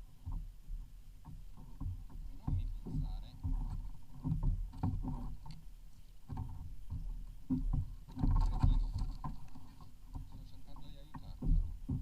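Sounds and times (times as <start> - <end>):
low rumble on microphone: 0.0 - 12.0
water sloshing against kayak hull: 0.0 - 12.0.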